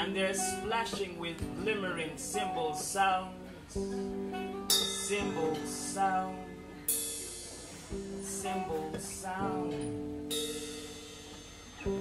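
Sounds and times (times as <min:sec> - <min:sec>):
guitar chords and melody: 0:00.0 - 0:12.0.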